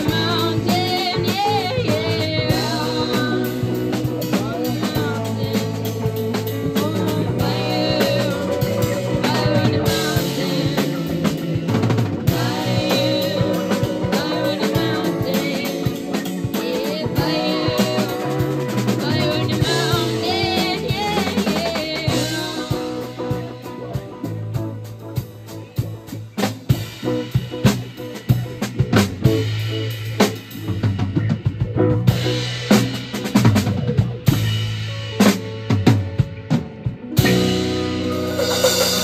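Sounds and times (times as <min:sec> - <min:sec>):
bass guitar: 0:00.0 - 0:39.0
drum kit: 0:00.0 - 0:39.0
electric guitars: 0:00.0 - 0:39.0.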